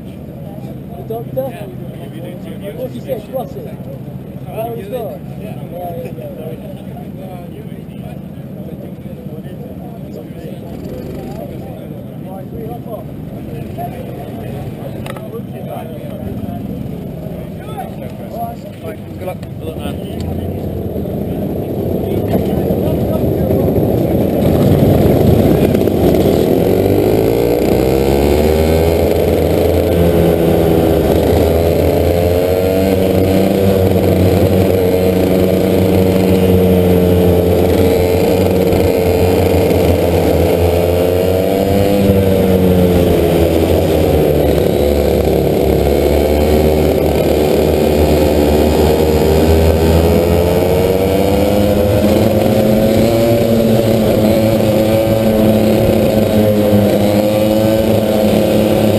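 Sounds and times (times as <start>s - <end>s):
muffled kart engine revving: 0.0s - 58.9s.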